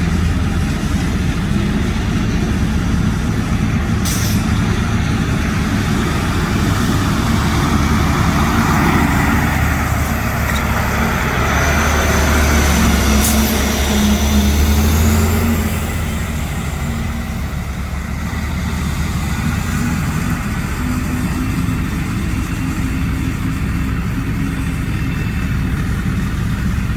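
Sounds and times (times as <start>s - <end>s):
truck diesel engine idling: 0.0s - 26.9s.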